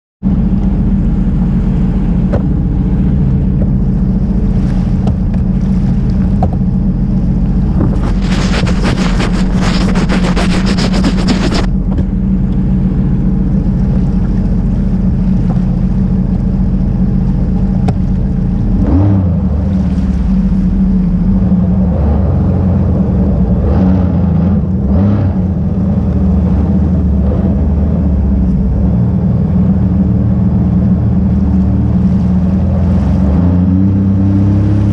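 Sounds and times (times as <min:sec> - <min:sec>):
jet ski engine running: 0:00.2 - 0:34.9
water and wind rushing: 0:00.2 - 0:34.9.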